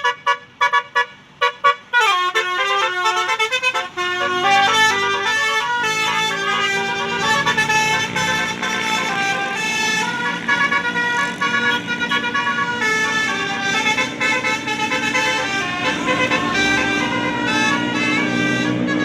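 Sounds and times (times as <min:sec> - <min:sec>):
bus engine noise: 0:00.0 - 0:19.0
musical air horn: 0:00.0 - 0:19.0.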